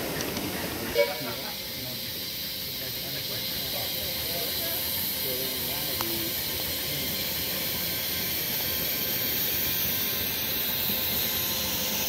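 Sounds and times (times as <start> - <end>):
miniature steam locomotive running: 0.0 - 12.0
steam hissing: 0.0 - 12.0.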